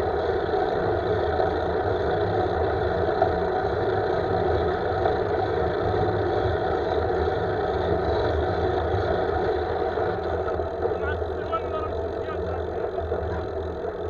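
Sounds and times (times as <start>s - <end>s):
low road rumble: 0.0s - 14.0s.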